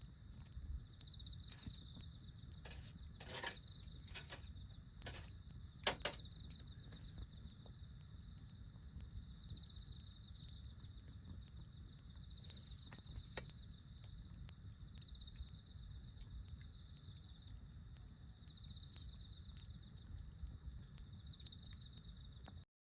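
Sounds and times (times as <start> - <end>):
campfire crackling: 0.0 - 22.6
crickets trilling: 0.0 - 22.6.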